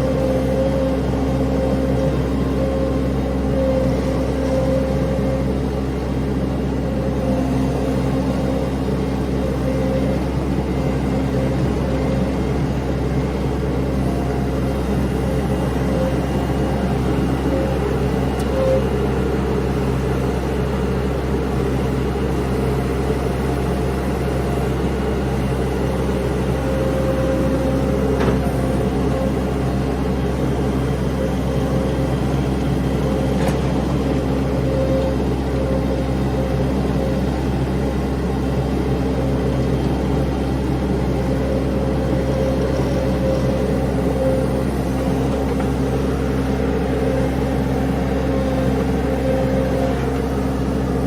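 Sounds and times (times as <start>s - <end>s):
engine running steadily: 0.0s - 51.0s.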